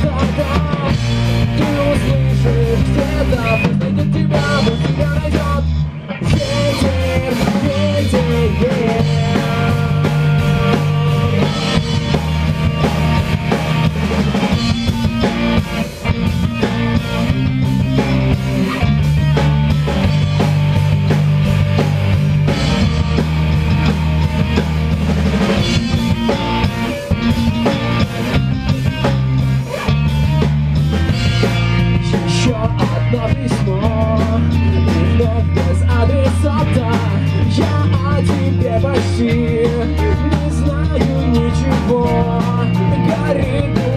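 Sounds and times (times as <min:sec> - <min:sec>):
bass line: 0:00.0 - 0:43.9
drum kit: 0:00.0 - 0:43.9
electric guitars: 0:00.0 - 0:43.9.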